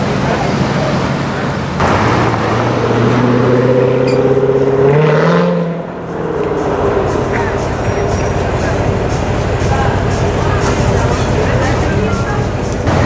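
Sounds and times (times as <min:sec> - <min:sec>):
car accelerating hard: 0:00.0 - 0:13.0.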